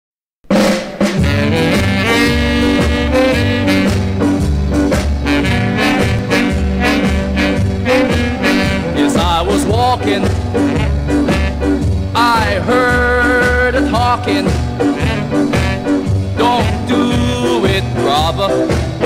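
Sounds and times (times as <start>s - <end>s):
ska music with horns: 0.4s - 19.0s.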